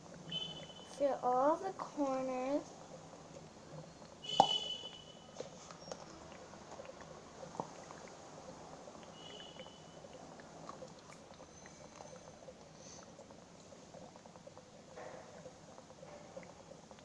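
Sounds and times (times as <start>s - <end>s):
faint crackles and ticks: 0.0s - 17.0s.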